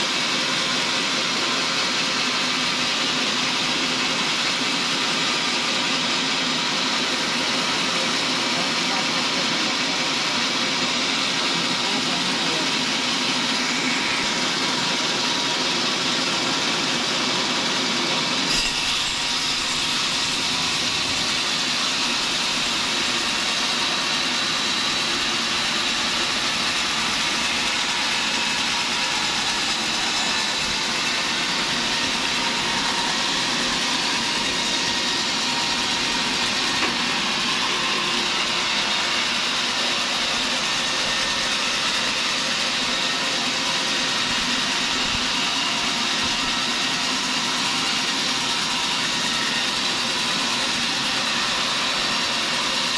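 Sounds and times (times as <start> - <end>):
saw blade cutting log: 0.0 - 52.9
sawmill machine running: 0.0 - 52.9.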